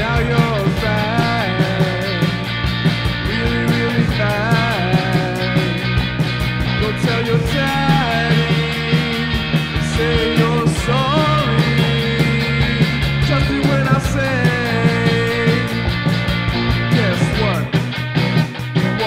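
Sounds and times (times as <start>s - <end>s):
drum kit: 0.0s - 19.0s
electric guitar melody: 0.0s - 19.0s.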